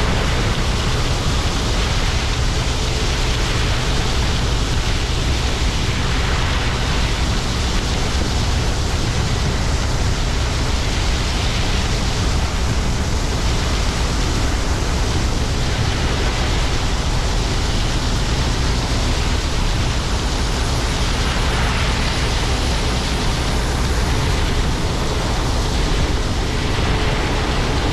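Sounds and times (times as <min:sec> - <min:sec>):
diesel machinery engine drone: 0:00.0 - 0:27.9
loud even rush of noise: 0:00.0 - 0:27.9.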